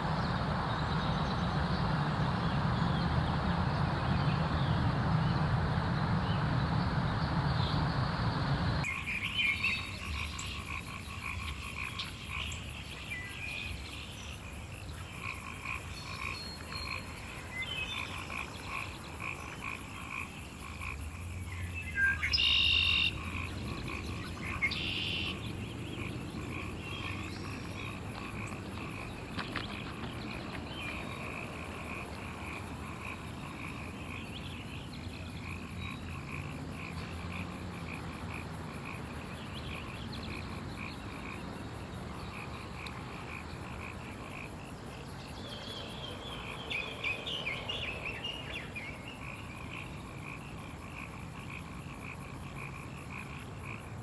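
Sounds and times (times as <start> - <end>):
frogs chorus trilling: 0.0 - 54.0
louder higher frog calls: 0.0 - 54.0.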